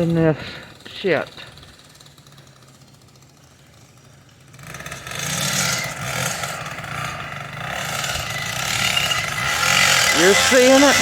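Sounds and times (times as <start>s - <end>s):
small gasoline engine approaching: 0.0s - 11.0s.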